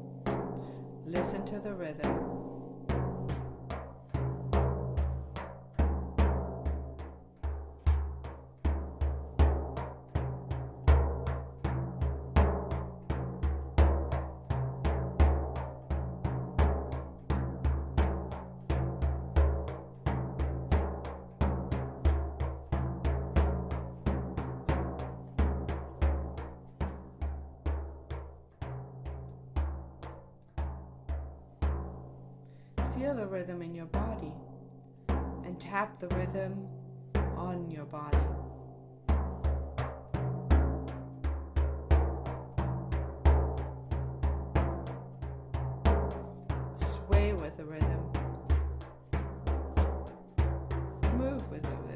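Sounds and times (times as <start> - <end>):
deep drum beating: 0.0 - 51.9.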